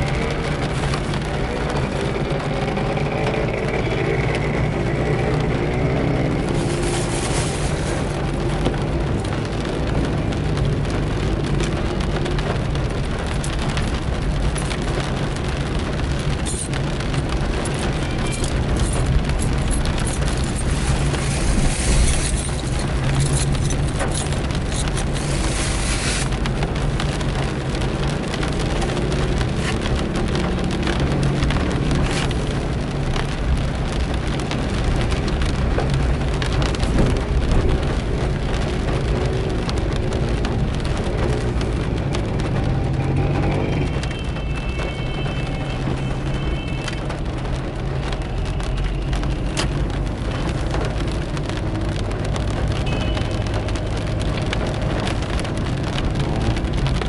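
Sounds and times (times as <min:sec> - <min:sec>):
rain on car windshield and roof: 0:00.0 - 0:57.0
road and engine rumble: 0:00.0 - 0:57.0
tyres hissing on wet road: 0:00.0 - 0:57.0.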